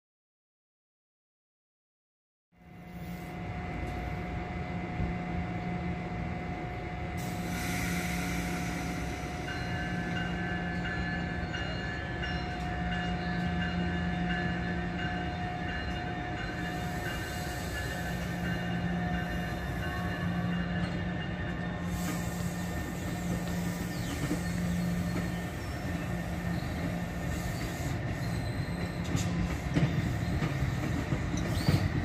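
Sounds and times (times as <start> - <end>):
train rumbling past: 2.6 - 32.0.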